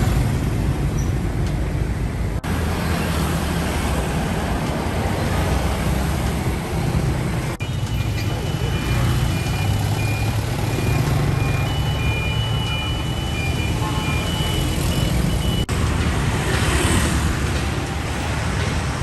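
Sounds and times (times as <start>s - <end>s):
passing traffic rushing: 0.0s - 19.0s
traffic engine rumble: 0.0s - 19.0s.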